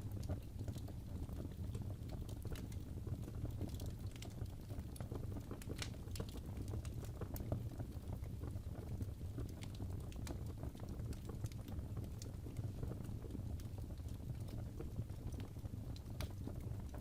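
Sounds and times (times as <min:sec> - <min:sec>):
burning logs crackling and popping: 0:00.0 - 0:17.0
fire rumbling: 0:00.0 - 0:17.0.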